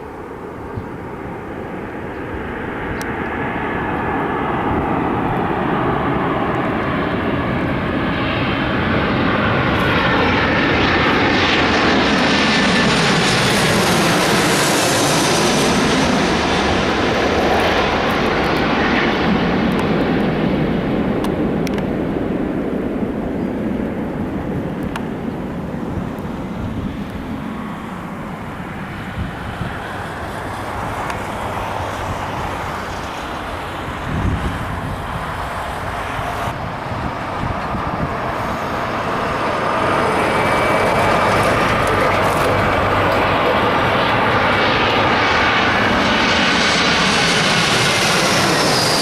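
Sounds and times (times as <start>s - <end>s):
jet airliner flying past: 0.0s - 49.0s.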